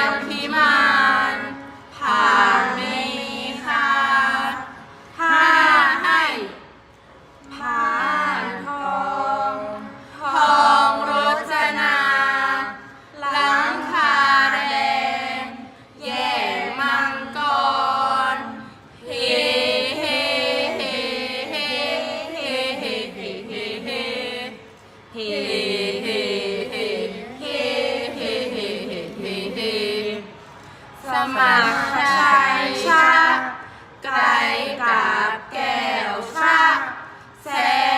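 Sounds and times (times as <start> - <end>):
voices chanting: 7.4 - 37.9.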